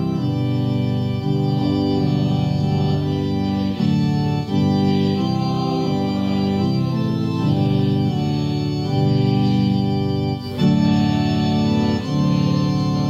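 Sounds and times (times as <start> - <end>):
organ playing a hymn: 0.0 - 13.0.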